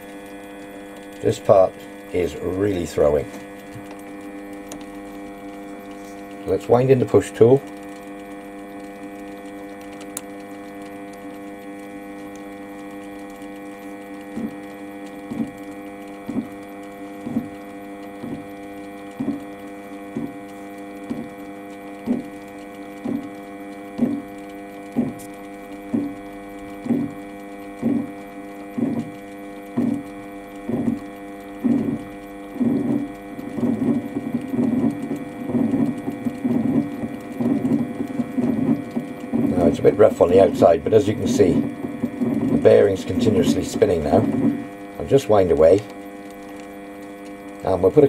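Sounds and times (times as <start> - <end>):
lathe humming: 0.0 - 48.0.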